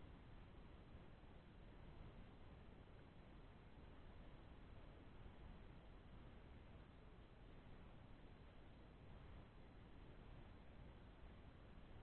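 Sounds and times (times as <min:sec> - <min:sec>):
faint microphone hiss: 0:00.0 - 0:12.0.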